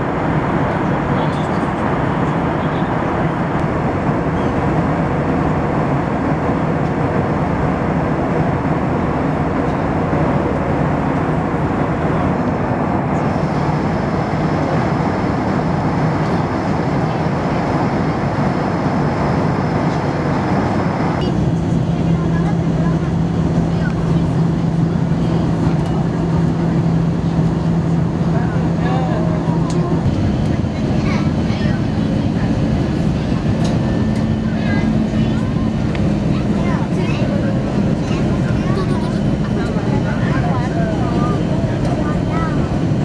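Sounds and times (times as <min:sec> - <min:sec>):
jet engine drone in cabin: 0:00.0 - 0:43.0.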